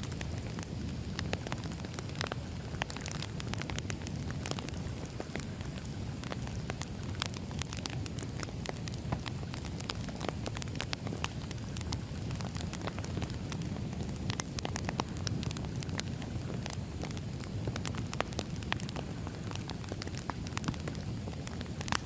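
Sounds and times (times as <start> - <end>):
firewood crackling and popping: 0.0 - 22.0
low rush of flames: 0.0 - 22.0.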